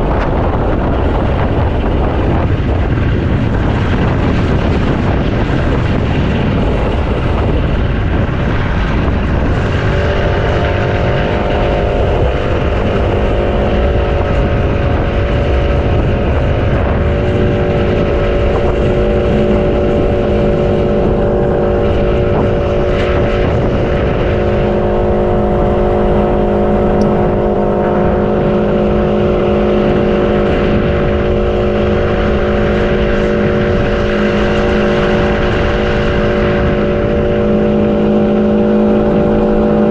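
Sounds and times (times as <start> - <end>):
motor running: 0.0 - 39.9
wind noise: 0.0 - 39.9.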